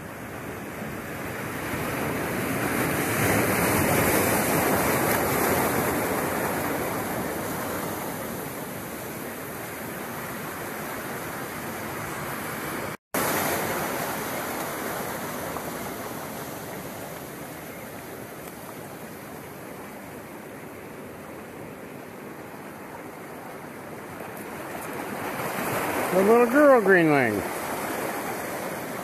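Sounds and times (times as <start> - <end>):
ocean surf on rocks: 0.0 - 29.0.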